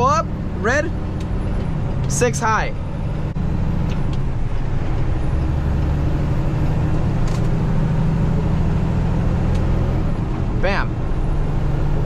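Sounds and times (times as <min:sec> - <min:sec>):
road noise: 0:00.0 - 0:12.0
truck diesel engine pulling: 0:00.0 - 0:12.0.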